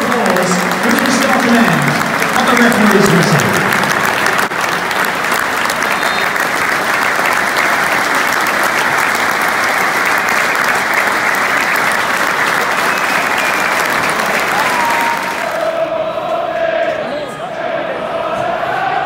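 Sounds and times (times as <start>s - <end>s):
stadium crowd applauding: 0.0s - 15.9s.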